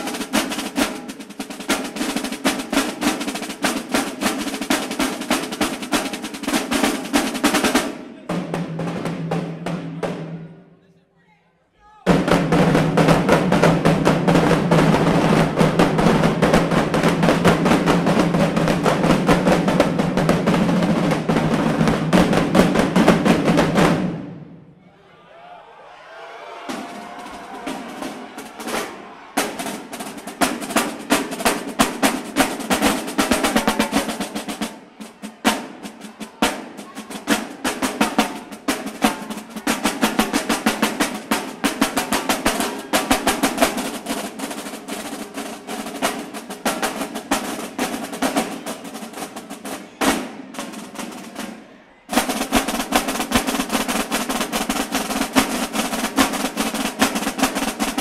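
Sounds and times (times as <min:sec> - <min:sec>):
drumline playing a fast cadence: 0:00.0 - 0:58.0.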